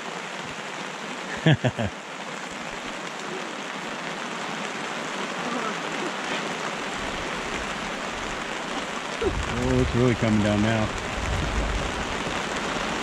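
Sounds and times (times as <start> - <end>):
rain pattering on canopy: 0.0 - 13.0.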